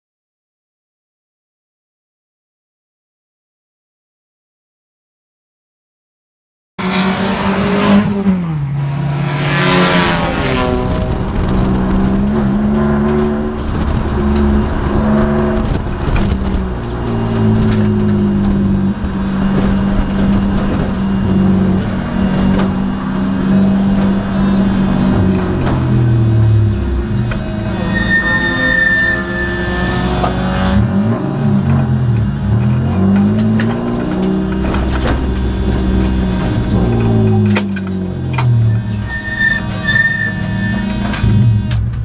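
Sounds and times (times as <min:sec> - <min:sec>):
race car engine running hard: 0:06.8 - 0:28.2, 0:29.6 - 0:42.0
tyre and wind noise: 0:07.4 - 0:42.0.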